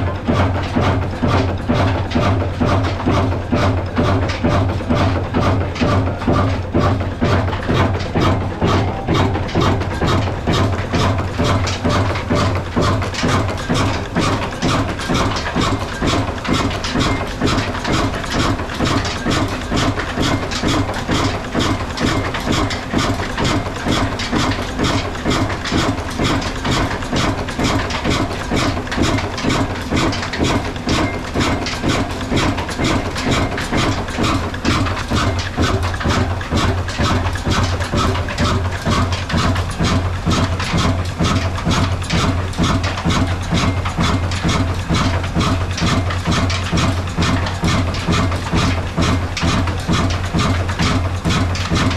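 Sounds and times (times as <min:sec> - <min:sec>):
diesel engine running rhythmically: 0:00.0 - 0:51.9.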